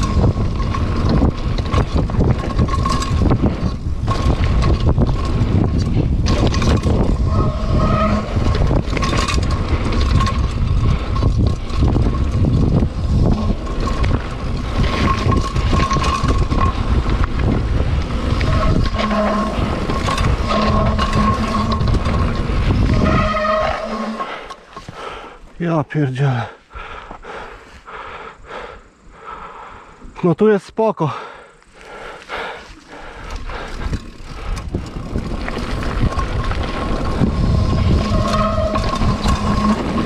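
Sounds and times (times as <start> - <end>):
wind buffeting microphone: 0.0 - 26.0, 31.9 - 40.0
bike rattling over rough ground: 0.0 - 27.8, 31.6 - 40.0.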